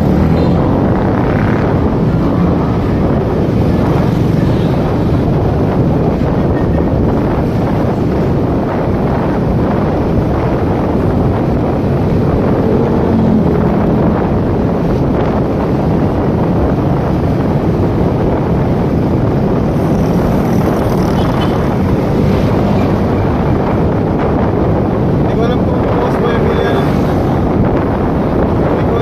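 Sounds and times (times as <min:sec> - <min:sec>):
wind rushing on microphone: 0:00.0 - 0:29.0.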